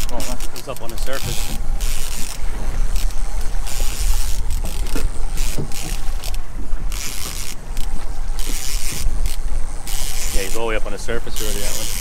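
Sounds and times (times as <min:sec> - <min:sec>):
water splashing around boat: 0:00.0 - 0:12.0
wind buffeting microphone: 0:00.0 - 0:12.0.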